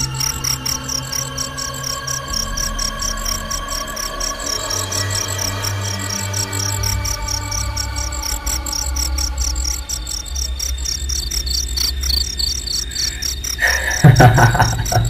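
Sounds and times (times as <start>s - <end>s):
crickets chirping: 0.0s - 15.0s
low steady hum: 0.0s - 15.0s.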